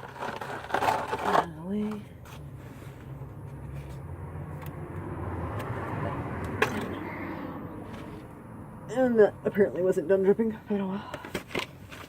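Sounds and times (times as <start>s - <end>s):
road vehicle passing: 0.2s - 11.2s.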